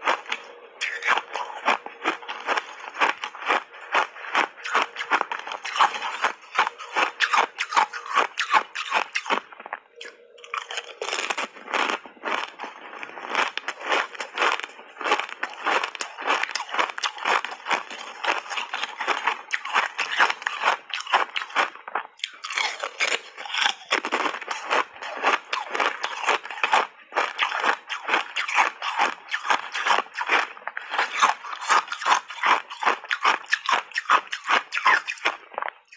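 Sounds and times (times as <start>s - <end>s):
crisp crunching of ice chips: 0.0s - 35.9s.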